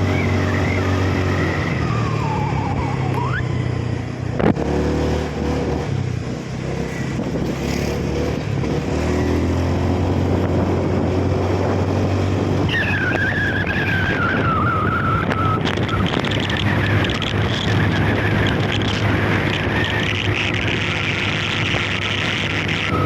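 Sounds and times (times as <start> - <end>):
car engine running: 0.0 - 23.0
road noise: 0.0 - 23.0.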